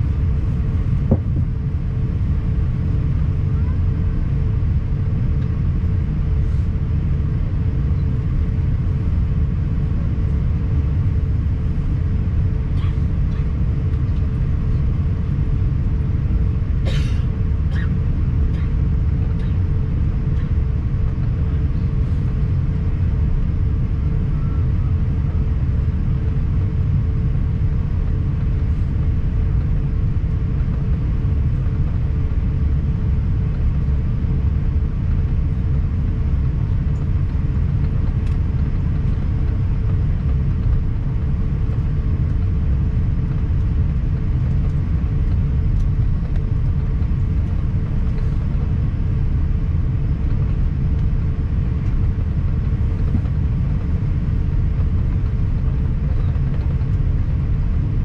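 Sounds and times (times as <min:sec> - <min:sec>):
aircraft cabin rumble: 0:00.0 - 0:58.0
faint steady hum: 0:00.0 - 0:58.0.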